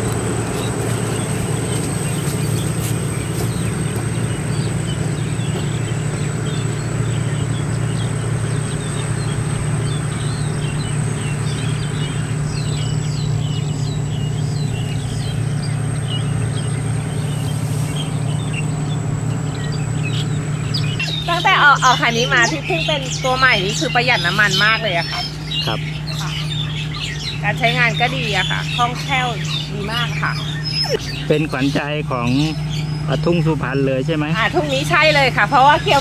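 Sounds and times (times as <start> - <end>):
birds chirping faintly: 0.0 - 36.0
combine harvester engine running: 0.0 - 36.0.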